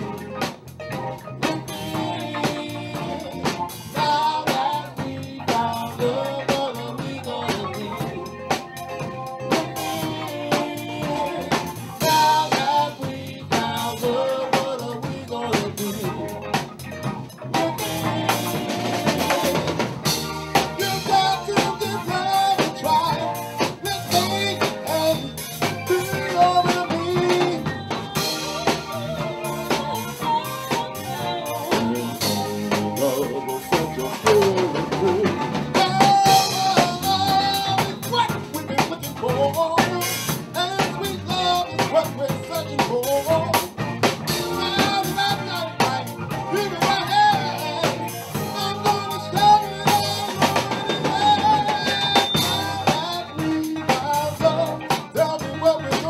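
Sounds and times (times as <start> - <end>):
drum kit beat: 0.0 - 56.0
guitar: 0.0 - 56.0
man singing into a microphone: 1.2 - 56.0.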